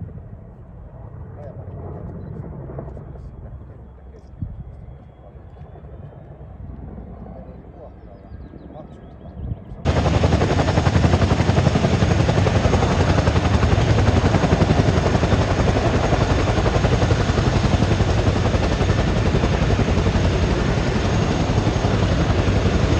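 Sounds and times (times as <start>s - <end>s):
twin-rotor helicopter running: 0.0s - 22.9s.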